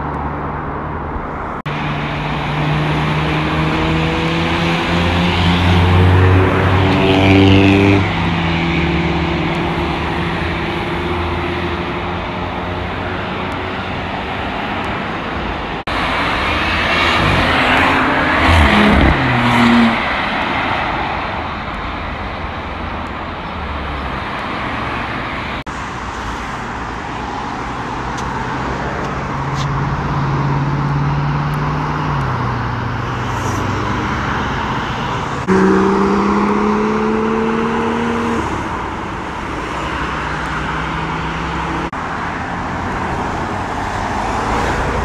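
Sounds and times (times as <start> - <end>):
cars accelerating past: 0.0 - 14.9, 15.8 - 21.3, 26.3 - 45.0
tyre and traffic noise: 0.0 - 45.0.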